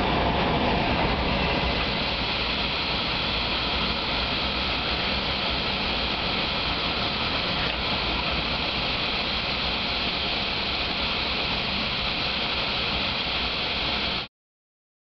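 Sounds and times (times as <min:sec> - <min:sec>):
harvest machinery rushing noise: 0:00.0 - 0:14.3.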